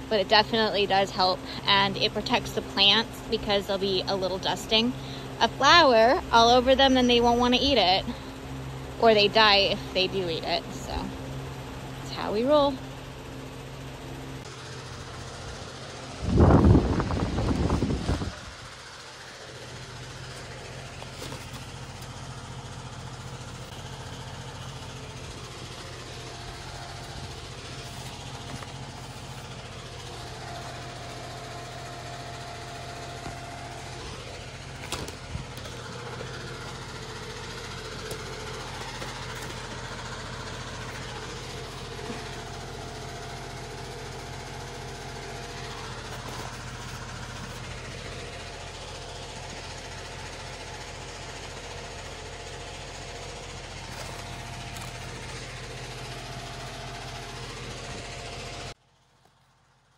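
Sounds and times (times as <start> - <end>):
fan motor humming: 0.0 - 59.5.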